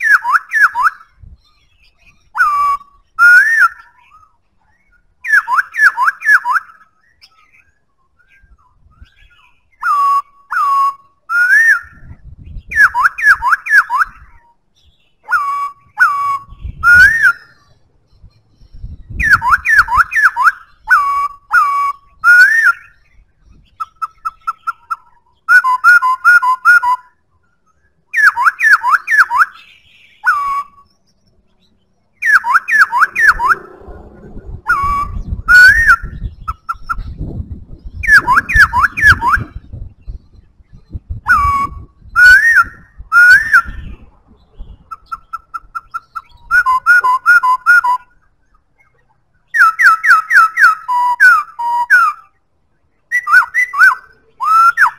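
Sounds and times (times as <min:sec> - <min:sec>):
bird singing whistled phrases: 0:00.0 - 0:31.2, 0:32.2 - 0:33.7, 0:34.6 - 0:37.2, 0:37.8 - 0:52.4, 0:53.0 - 0:54.9.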